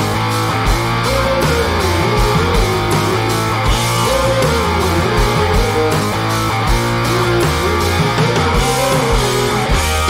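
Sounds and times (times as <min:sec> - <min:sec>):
rock music with guitar and bass: 0:00.0 - 0:10.0.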